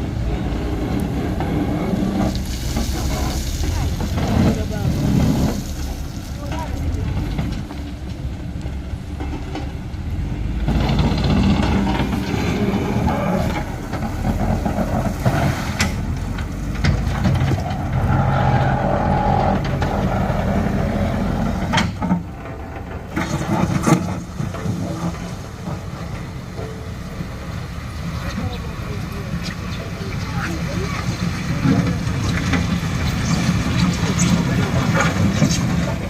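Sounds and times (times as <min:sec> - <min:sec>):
heavy diesel engines under load: 0:00.0 - 0:36.0.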